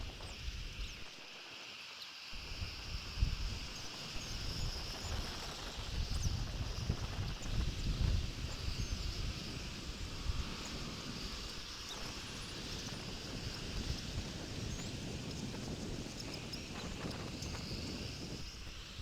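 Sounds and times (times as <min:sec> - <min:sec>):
constant hiss: 0:00.0 - 0:19.0
wind buffeting microphone: 0:02.4 - 0:19.0.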